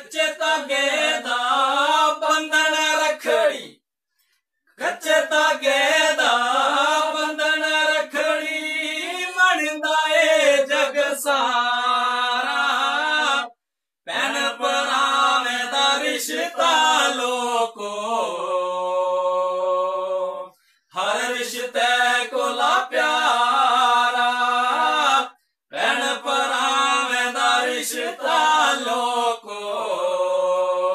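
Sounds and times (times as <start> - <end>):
men singing a folk song: 0.0 - 3.8, 4.8 - 30.9.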